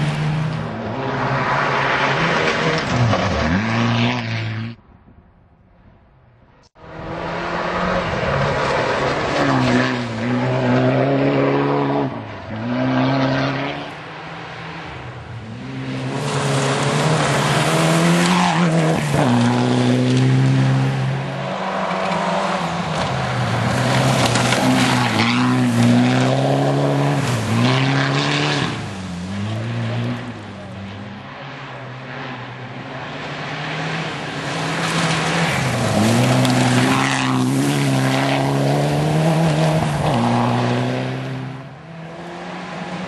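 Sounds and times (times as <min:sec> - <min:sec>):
gravel and tyre noise: 0:00.0 - 0:43.0
rally car engine revving: 0:06.8 - 0:43.0.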